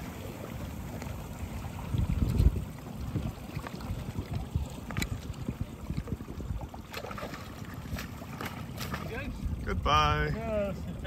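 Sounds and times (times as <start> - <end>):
water lapping against boat hull: 0.0 - 11.0
wind rumble on microphone: 0.0 - 11.0.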